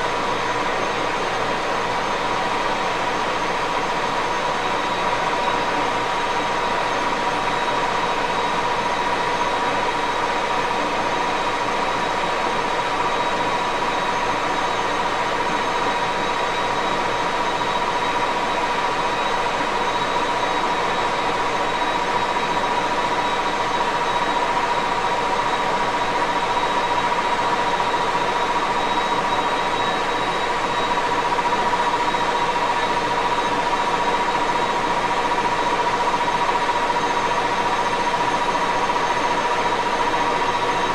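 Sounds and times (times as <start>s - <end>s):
lathe gear whine: 0.0s - 40.9s.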